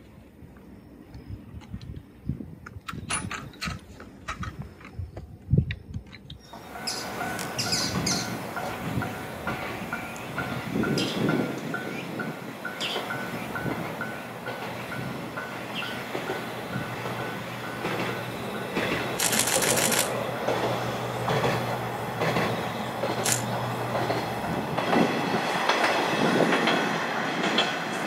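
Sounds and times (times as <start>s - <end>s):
wheels clicking over rail joints: 2.6s - 28.0s.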